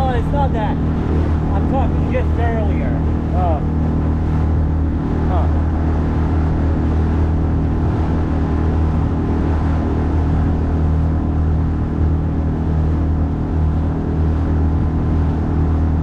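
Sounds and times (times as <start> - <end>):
outboard motor droning: 0.0 - 16.0
rush of water: 0.0 - 16.0
wind: 0.0 - 16.0.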